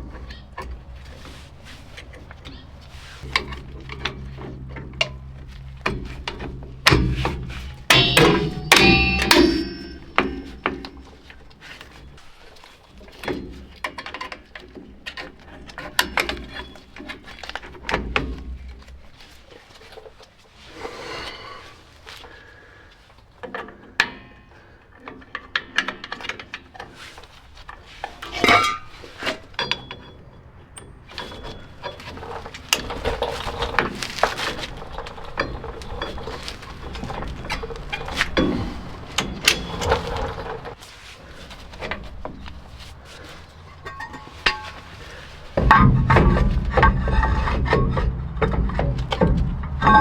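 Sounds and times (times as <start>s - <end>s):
metal tools clinking: 0.0s - 20.0s, 23.5s - 50.0s
metal scraping: 0.0s - 21.6s, 25.4s - 50.0s.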